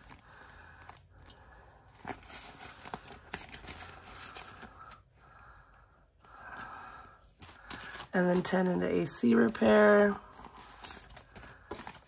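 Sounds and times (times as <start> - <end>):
plastic envelope crinkling: 0.0 - 5.0, 7.3 - 12.0
paper banknotes rustling: 0.0 - 5.1, 6.6 - 12.0.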